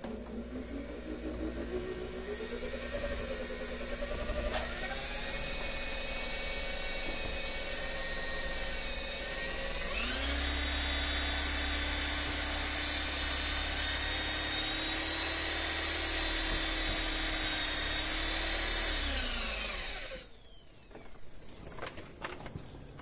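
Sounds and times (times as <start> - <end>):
electric polisher motor whine: 0.0 - 21.0.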